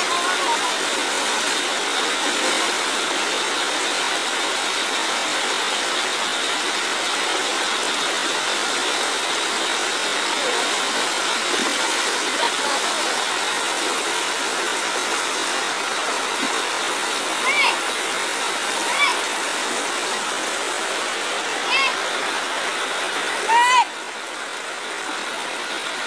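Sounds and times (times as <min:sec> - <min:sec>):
rushing floodwater: 0:00.0 - 0:26.0.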